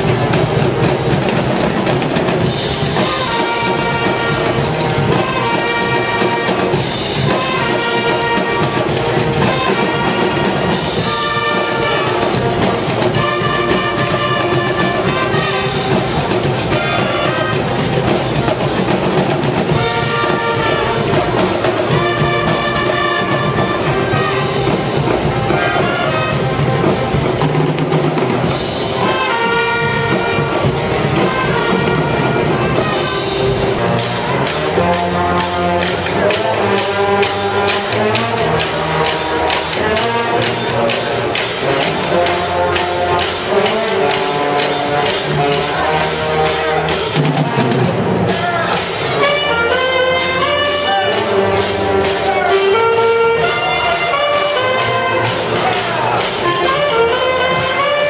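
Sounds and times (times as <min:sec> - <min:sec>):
brass band playing: 0:00.0 - 0:58.0
drums: 0:00.0 - 0:58.0.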